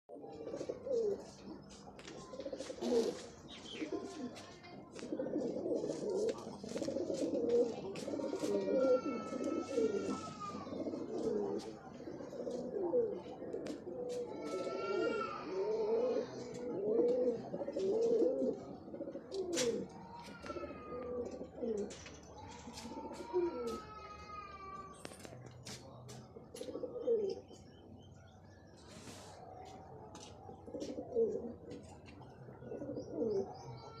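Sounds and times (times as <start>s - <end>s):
pigeons cooing: 0.1s - 24.7s, 26.3s - 28.1s, 28.7s - 34.0s.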